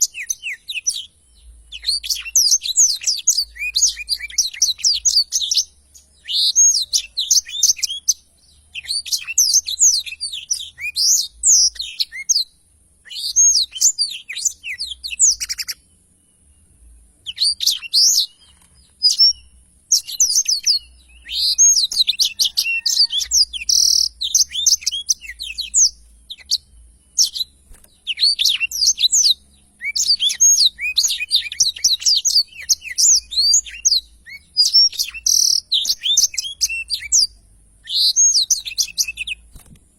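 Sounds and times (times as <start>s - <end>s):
canary singing: 0.0s - 39.7s.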